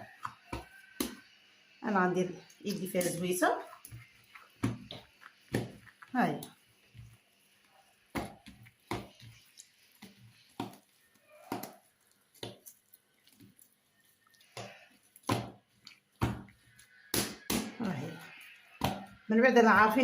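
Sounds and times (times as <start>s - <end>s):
wet slaps of dough kneading: 0.0s - 1.3s, 2.5s - 20.0s.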